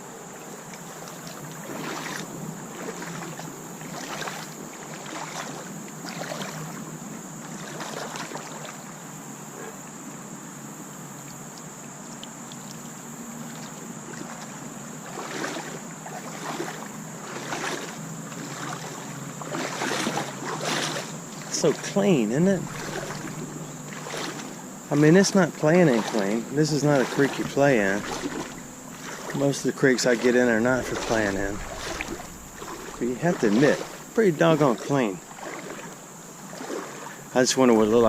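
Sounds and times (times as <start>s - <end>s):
boots splashing through water: 0.0s - 8.9s, 12.2s - 38.0s.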